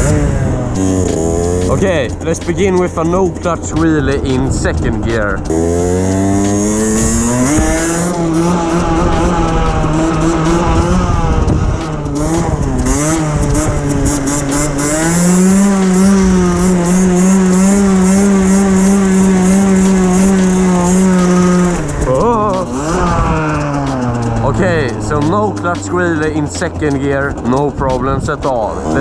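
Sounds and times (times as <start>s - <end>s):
two-stroke motorcycle engine revving: 0.0s - 29.0s.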